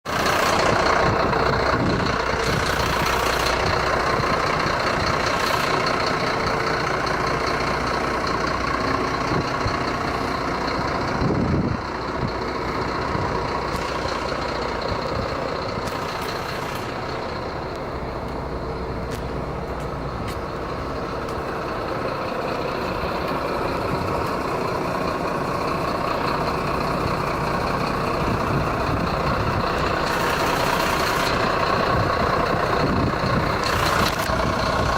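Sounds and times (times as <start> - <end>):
truck engine idling: 0.0 - 34.9.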